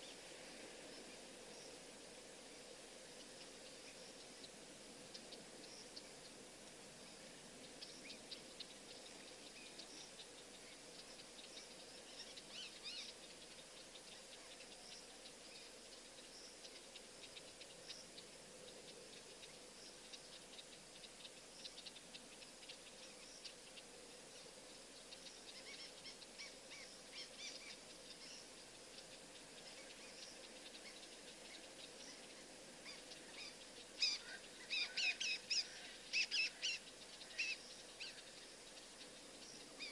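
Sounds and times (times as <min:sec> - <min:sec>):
low steady hiss: 0:00.0 - 0:39.9
bird chirps: 0:07.0 - 0:39.9.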